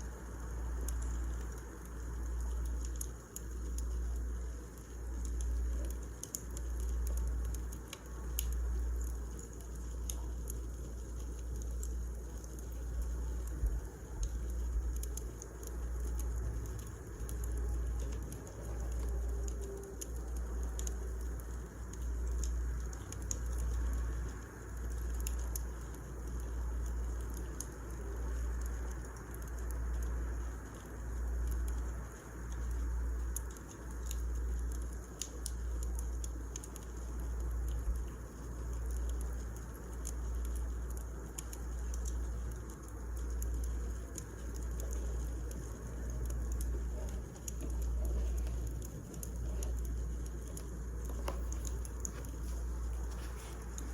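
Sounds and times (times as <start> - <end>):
sharp pops and snaps: 0.0 - 53.9
wood fire crackling: 0.0 - 53.9.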